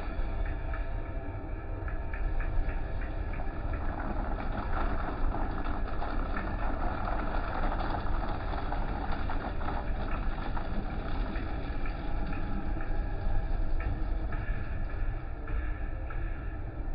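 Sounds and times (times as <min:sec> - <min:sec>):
car wash machinery and water: 0:00.0 - 0:15.1
strong low hum: 0:00.0 - 0:16.9.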